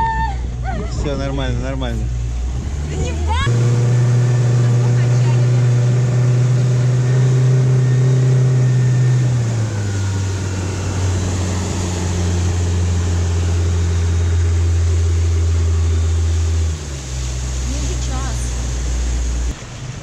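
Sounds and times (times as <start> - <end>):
motorboat engine humming: 0.0 - 20.0.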